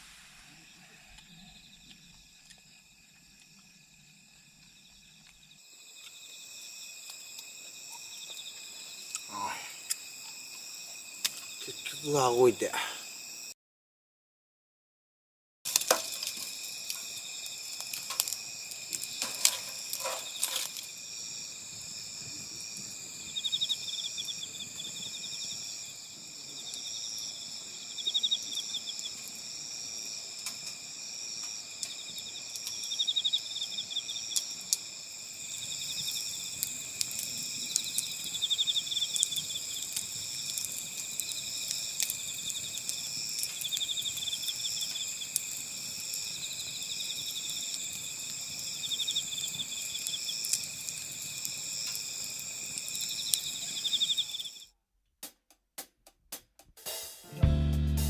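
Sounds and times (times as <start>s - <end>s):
crickets trilling: 0.0s - 13.5s, 15.7s - 54.7s
pulsing insect trill: 0.4s - 13.5s, 15.7s - 54.6s.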